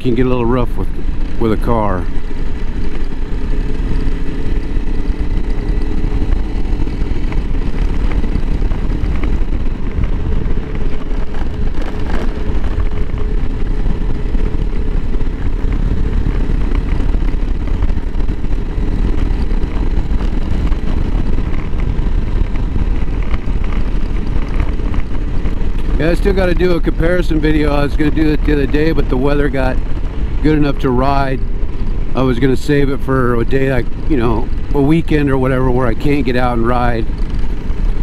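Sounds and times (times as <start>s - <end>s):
motorcycle engine running: 0.0s - 38.0s
wind rumble on microphone: 0.0s - 38.0s.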